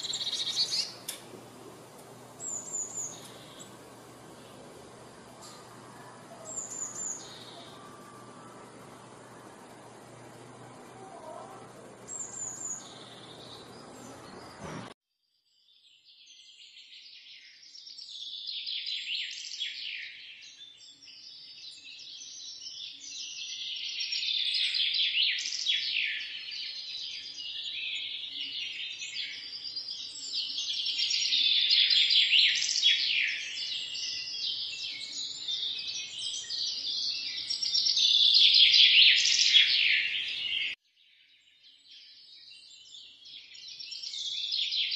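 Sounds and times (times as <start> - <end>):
small birds chirping: 0.0 - 14.9, 15.6 - 44.9.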